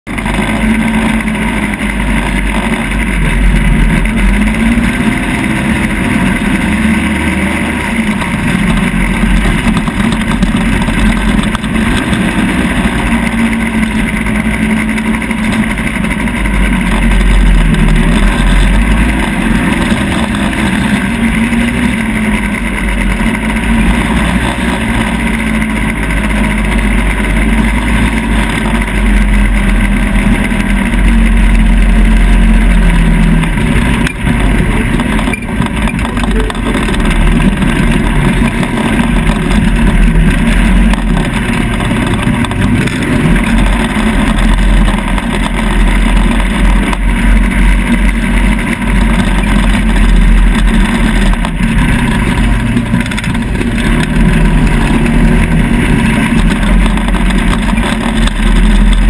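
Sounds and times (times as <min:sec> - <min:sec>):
quad engine revving: 0:00.0 - 0:59.0
low steady rumble: 0:00.1 - 0:59.0.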